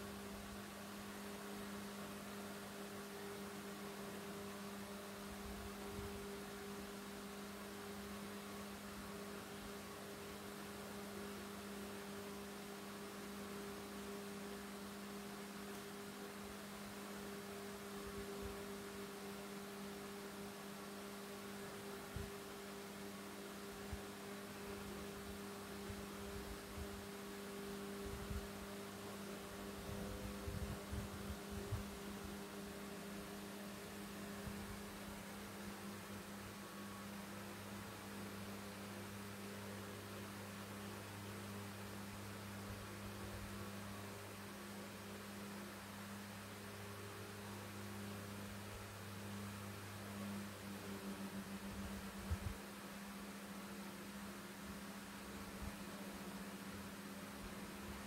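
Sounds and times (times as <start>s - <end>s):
two-tone steady hum: 0.0s - 58.0s.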